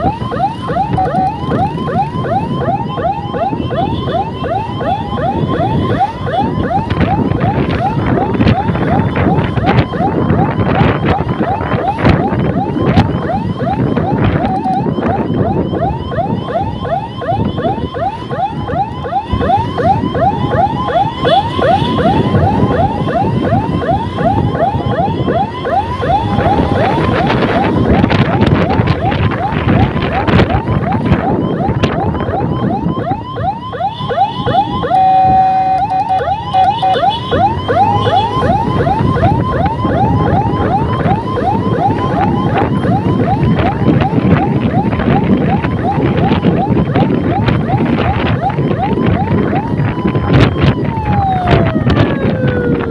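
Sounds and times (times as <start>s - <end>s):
electronic siren yelping: 0.0s - 52.9s
road noise: 0.0s - 52.9s
wind: 0.0s - 52.9s.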